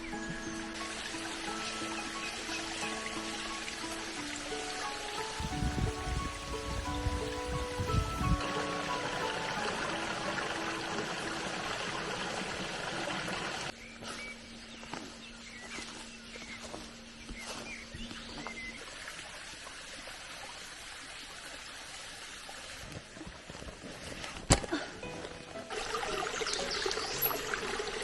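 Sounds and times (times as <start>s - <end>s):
stream running: 0.0s - 13.8s, 15.0s - 28.0s.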